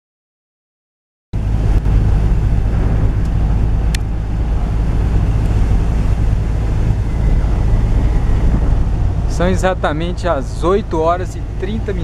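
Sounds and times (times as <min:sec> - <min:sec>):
car driving on a wet road: 0:01.4 - 0:12.0.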